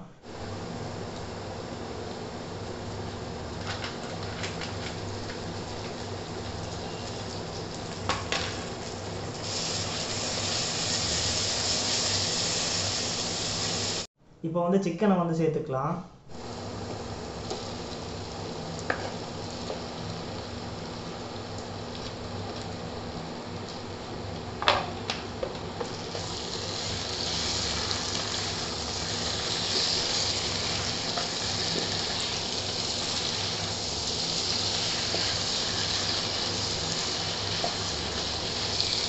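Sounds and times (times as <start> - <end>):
chicken sizzling in oil: 1.6 - 14.1, 16.4 - 24.0, 25.8 - 39.0.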